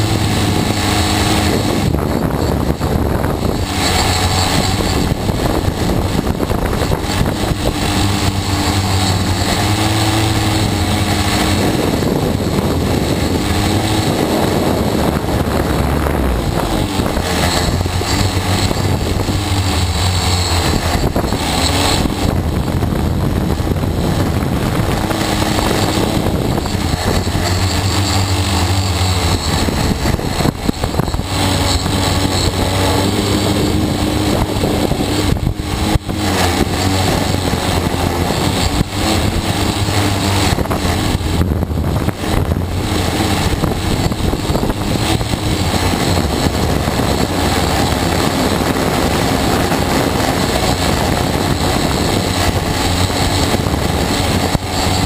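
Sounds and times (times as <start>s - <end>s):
drone propellers buzzing: 0.0s - 55.0s.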